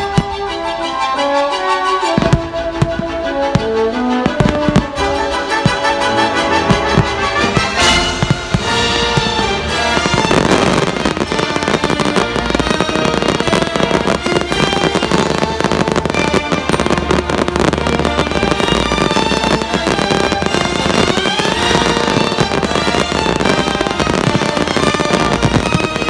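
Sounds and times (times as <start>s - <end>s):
fireworks popping and crackling: 0.0s - 0.6s, 2.1s - 26.0s
loud show music: 1.9s - 26.0s.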